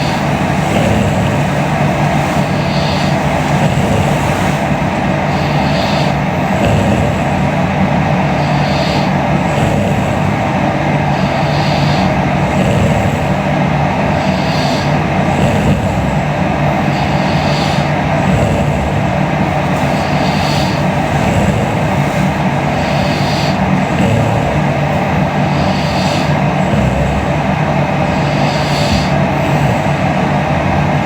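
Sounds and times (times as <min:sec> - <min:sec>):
steady rumbling noise: 0:00.0 - 0:31.0
woman snoring: 0:00.0 - 0:31.0.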